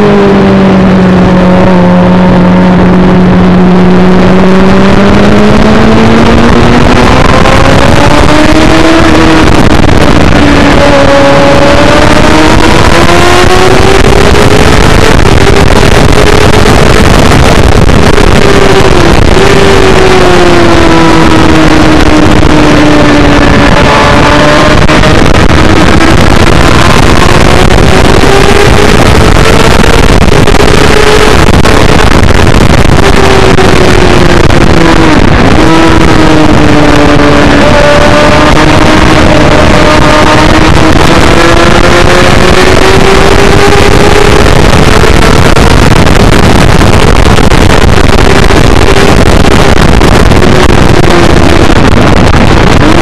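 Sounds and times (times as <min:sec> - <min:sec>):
motorcycle engine revving: 0:00.0 - 0:53.0
wind noise on microphone: 0:00.0 - 0:53.0.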